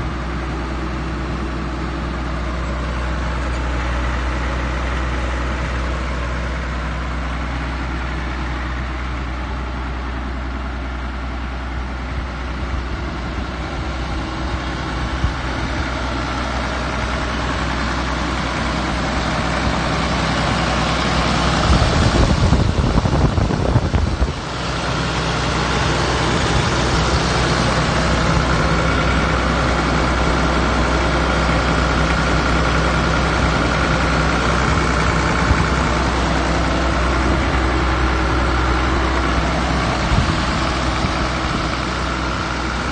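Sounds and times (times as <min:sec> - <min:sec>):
loud rough rumble: 0:00.0 - 0:42.9
tractor engine idling: 0:00.0 - 0:42.9.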